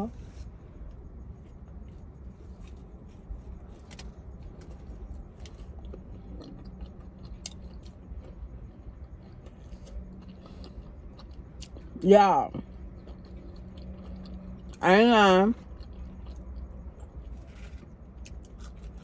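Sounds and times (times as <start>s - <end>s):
low steady hum: 0.0s - 19.0s
person chewing: 0.1s - 14.8s, 15.5s - 19.0s.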